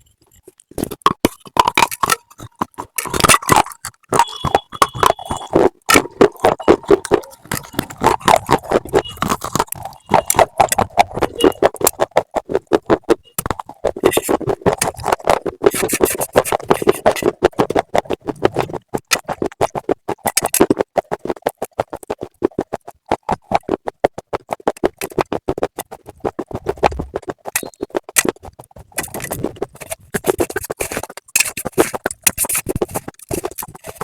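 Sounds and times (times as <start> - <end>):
crunching of slate being chewed: 0.0 - 34.0.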